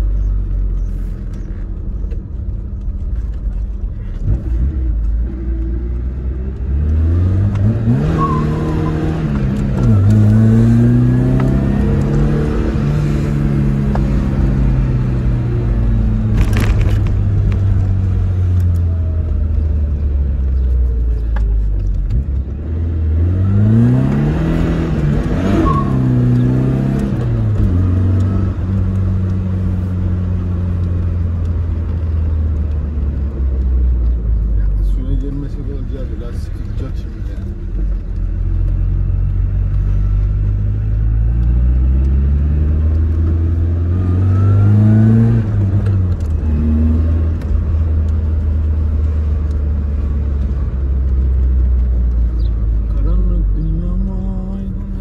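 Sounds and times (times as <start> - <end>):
car engine revving: 3.0 - 55.0.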